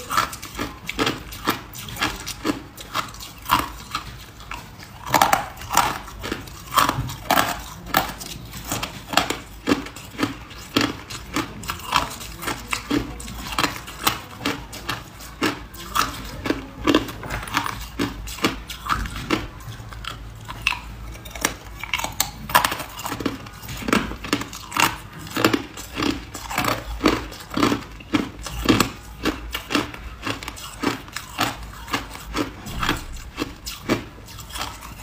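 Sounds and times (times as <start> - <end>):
ice cubes crunching in mouth: 0.0 - 35.0.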